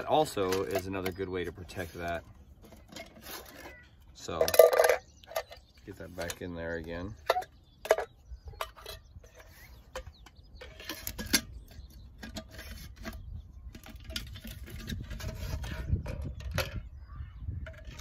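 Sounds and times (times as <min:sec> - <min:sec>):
metal camping stove parts clicking: 0:00.0 - 0:16.8.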